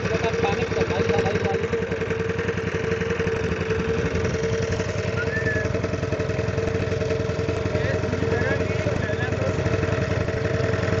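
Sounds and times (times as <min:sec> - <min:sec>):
small boat engine chugging: 0:00.0 - 0:11.0.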